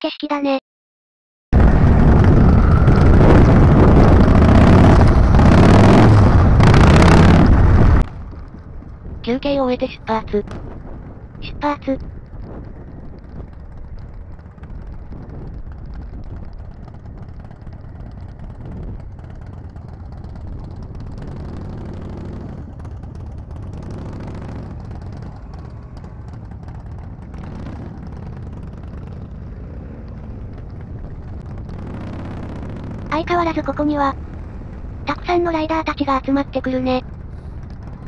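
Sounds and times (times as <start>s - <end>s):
motorcycle engines rumbling: 1.6s - 38.0s.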